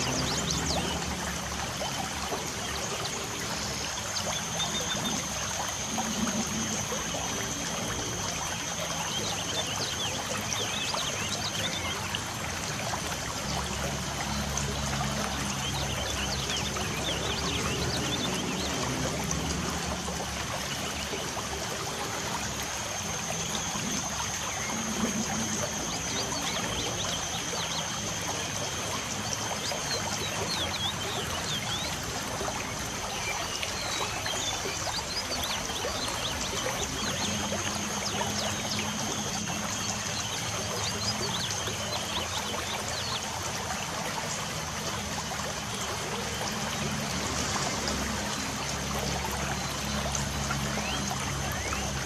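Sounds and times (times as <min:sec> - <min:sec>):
water trickling: 0:00.0 - 0:52.0.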